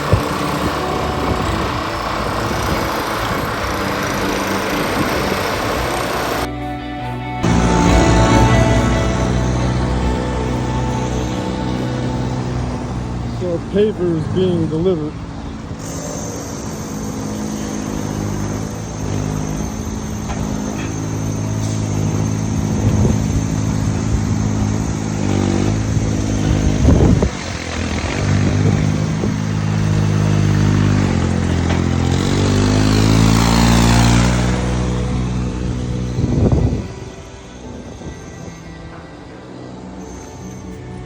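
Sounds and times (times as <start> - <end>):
truck engine revving: 0.0 - 41.0.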